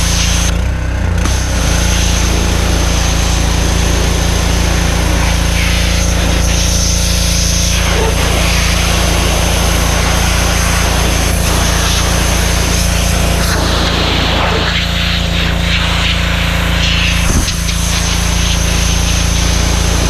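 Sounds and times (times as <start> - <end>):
high-pressure spray hiss: 0.0 - 0.5, 1.3 - 20.0
pressure washer engine humming: 0.0 - 20.0.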